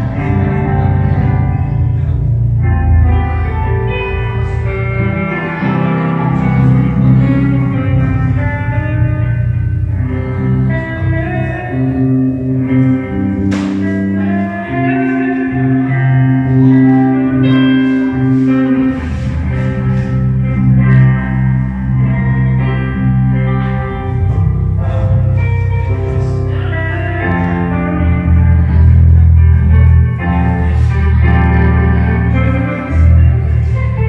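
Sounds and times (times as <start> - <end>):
bass guitar line: 0.0 - 34.0
guitar and keyboard chords: 0.0 - 34.0.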